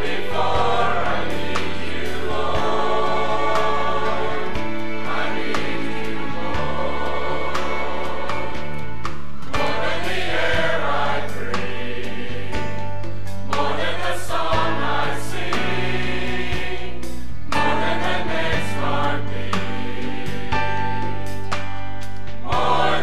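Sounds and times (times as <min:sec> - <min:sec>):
mixed choir singing: 0:00.0 - 0:21.6, 0:22.4 - 0:23.0.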